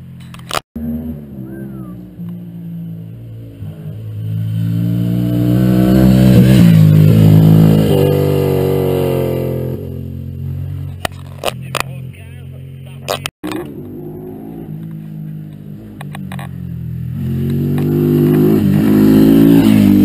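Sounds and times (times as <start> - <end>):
motorcycle passing by: 0.8 - 10.9, 13.6 - 20.0.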